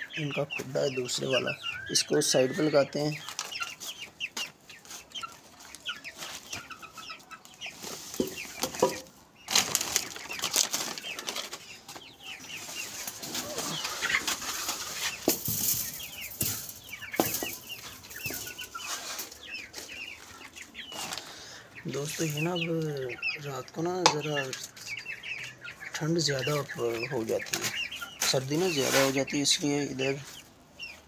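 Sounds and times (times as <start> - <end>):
chickens clucking and chirping: 0.0 - 31.0.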